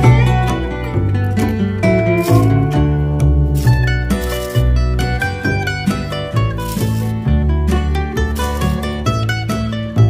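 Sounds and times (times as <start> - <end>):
plucked guitar: 0.0 - 10.0
steady bass line: 0.0 - 10.0.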